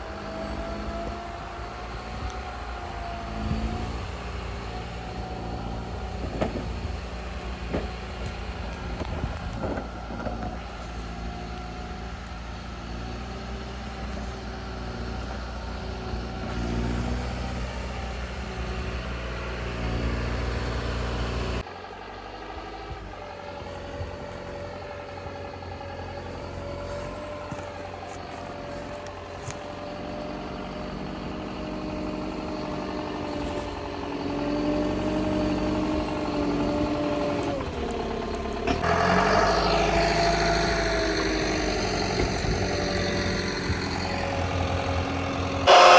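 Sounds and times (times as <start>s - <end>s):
heavy vehicle engine running: 0.0s - 45.9s.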